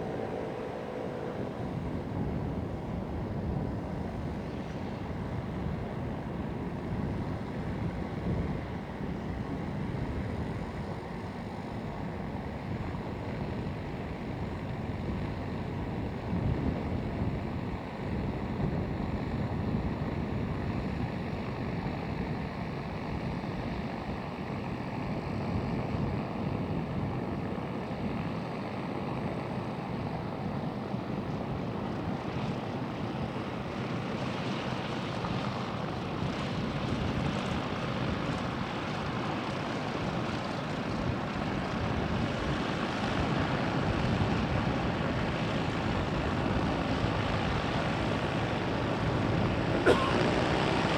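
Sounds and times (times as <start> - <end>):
propeller aircraft engine running: 0.0 - 50.9.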